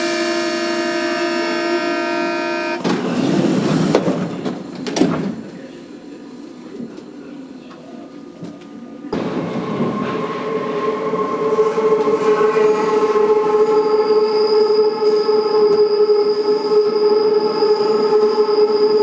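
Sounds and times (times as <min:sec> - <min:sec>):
subway train rumbling roar: 0:00.0 - 0:19.0
subway train whine: 0:00.0 - 0:19.0.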